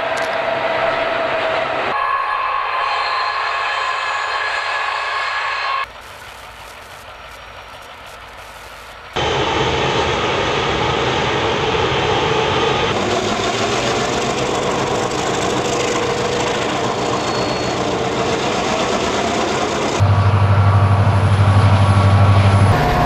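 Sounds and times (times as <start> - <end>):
diesel locomotives running: 0.0 - 23.0
locomotive engine drone: 0.0 - 23.0.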